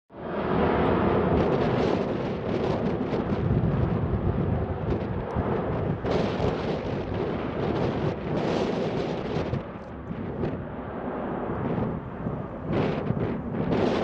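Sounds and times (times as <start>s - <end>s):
jet engines at takeoff power: 0.1s - 14.0s.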